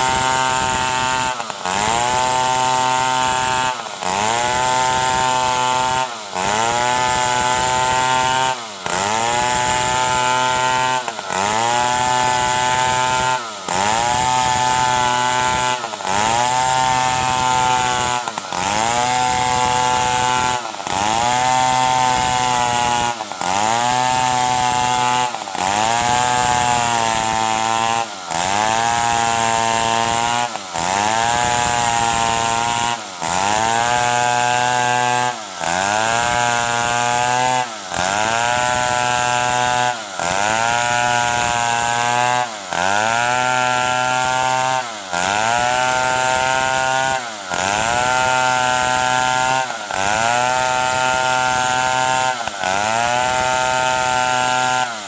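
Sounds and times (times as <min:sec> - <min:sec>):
chainsaw sawing wood: 0:00.0 - 0:55.0.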